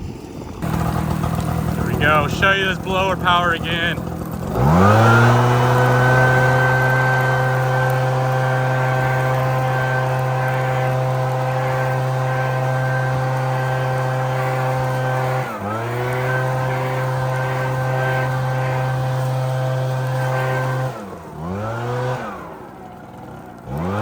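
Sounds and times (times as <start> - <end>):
leaf blower engine revving: 0.4 - 24.0.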